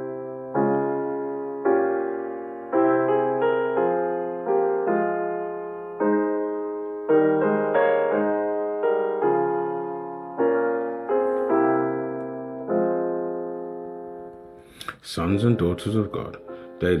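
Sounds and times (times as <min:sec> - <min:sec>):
slow solo piano chords: 0:00.0 - 0:17.0.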